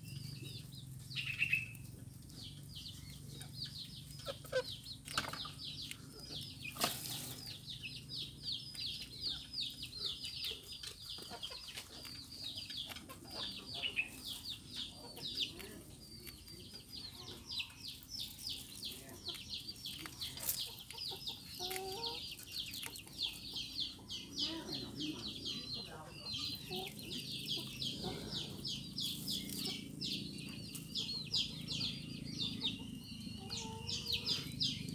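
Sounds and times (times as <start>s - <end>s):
chicks peeping: 0.0s - 34.9s
hen clucking: 0.2s - 34.9s.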